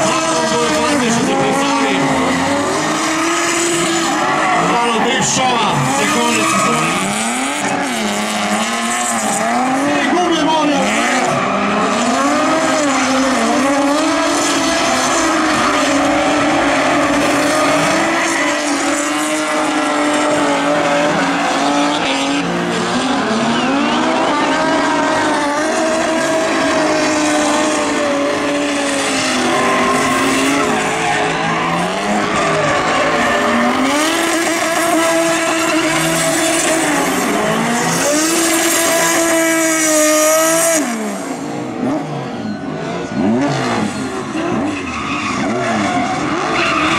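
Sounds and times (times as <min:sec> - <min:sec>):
car engine at high revs: 0:00.0 - 0:46.9
tyres screeching: 0:00.4 - 0:40.6.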